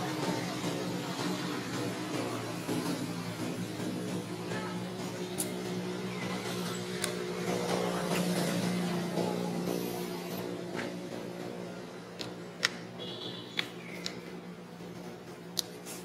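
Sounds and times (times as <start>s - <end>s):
motor engine humming: 0.0s - 16.0s.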